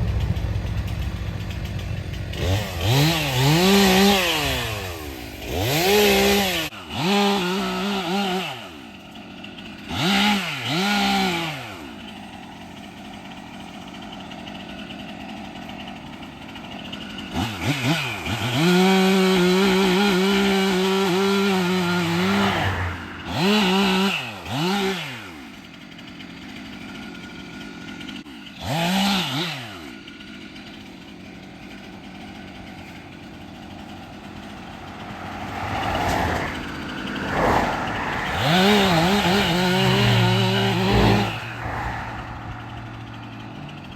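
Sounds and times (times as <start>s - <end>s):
chainsaw idling and revving: 0.0s - 43.9s.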